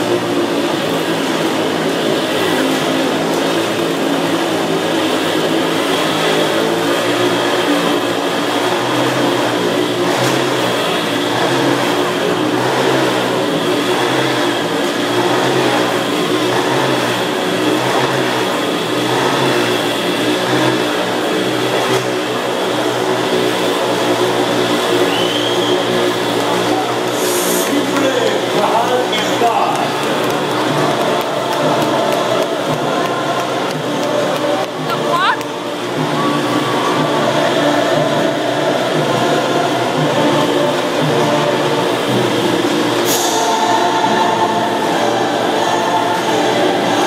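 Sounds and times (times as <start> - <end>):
motorcycle engines running: 0.0 - 47.0.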